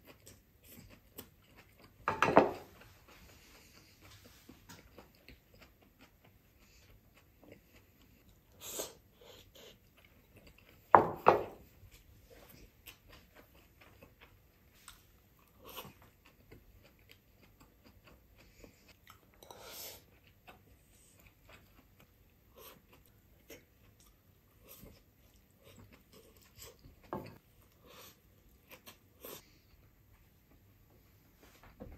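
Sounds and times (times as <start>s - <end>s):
person chewing: 0.0s - 30.6s.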